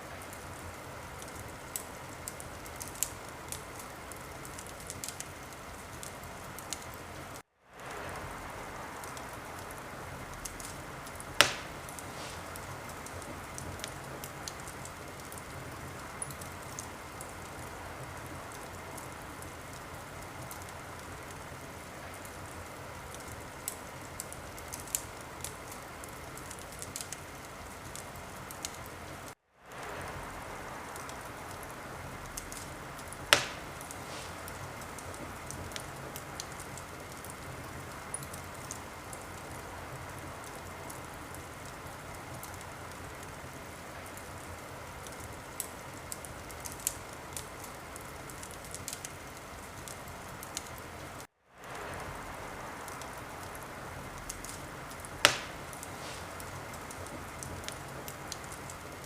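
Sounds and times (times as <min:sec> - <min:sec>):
wood fire crackling: 0:00.0 - 0:59.0
sharp pops from fire: 0:00.1 - 0:08.0, 0:08.9 - 0:30.0, 0:30.8 - 0:50.8, 0:54.2 - 0:59.0.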